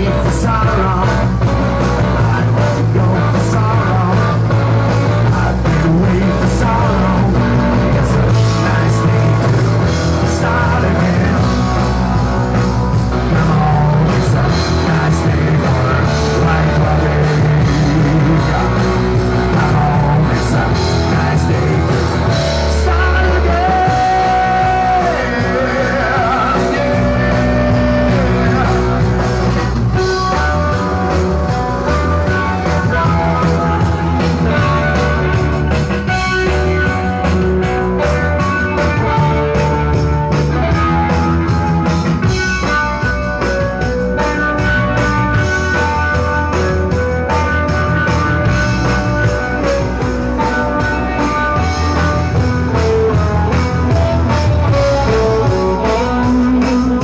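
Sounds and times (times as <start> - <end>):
bent electric guitar notes: 0.0 - 57.0
live rock band playing: 0.0 - 57.0.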